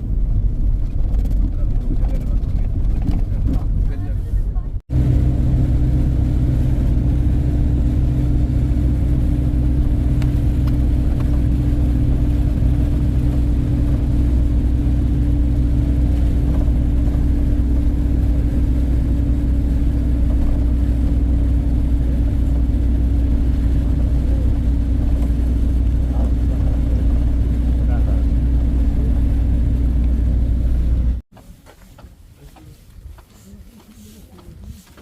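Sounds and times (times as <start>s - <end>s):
car engine droning: 0.0s - 31.2s
road noise: 0.0s - 35.0s.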